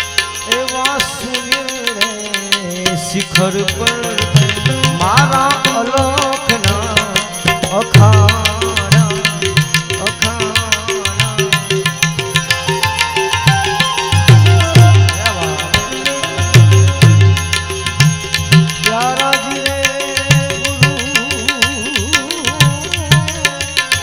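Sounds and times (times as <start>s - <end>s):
hand drums beating: 0.0s - 24.0s
wavering folk melody: 0.0s - 24.0s.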